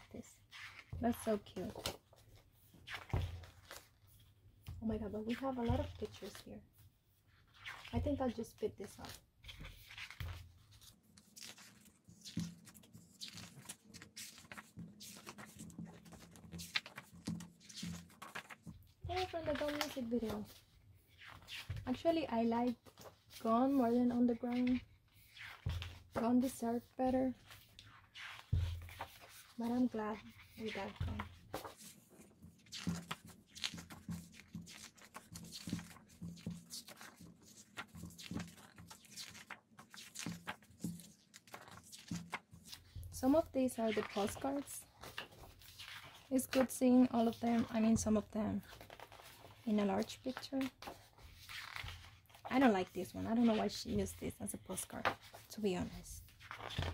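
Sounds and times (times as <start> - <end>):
book pages turning: 0.0 - 6.5, 7.3 - 56.9.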